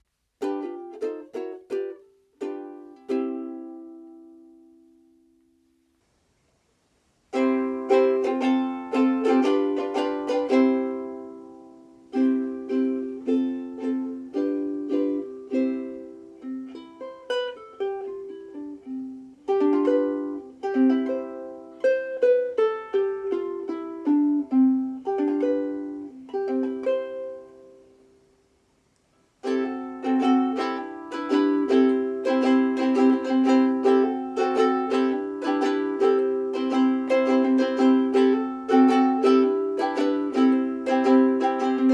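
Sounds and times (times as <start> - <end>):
ukulele strumming and picking: 0.0 - 5.8, 7.3 - 28.3, 29.3 - 41.9.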